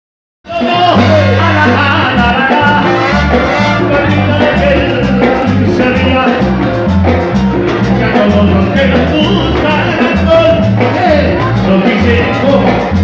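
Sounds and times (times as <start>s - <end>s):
congas: 0.5s - 13.0s
latin dance band playing: 0.5s - 13.0s
stepping bass line: 0.5s - 13.0s.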